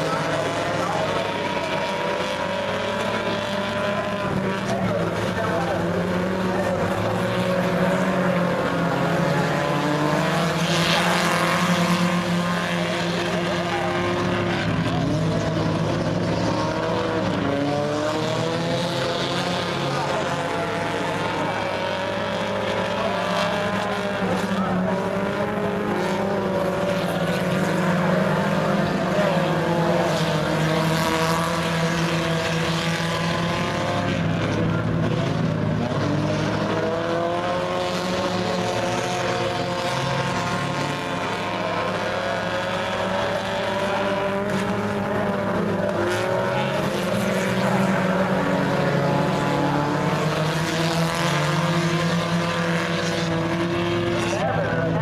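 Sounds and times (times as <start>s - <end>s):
race car engines at speed: 0.0s - 55.0s.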